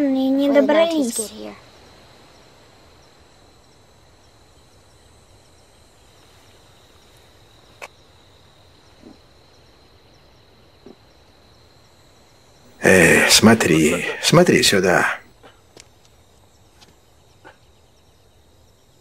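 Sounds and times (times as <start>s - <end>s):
insect chirps: 0.0s - 19.0s
insects droning: 0.0s - 19.0s.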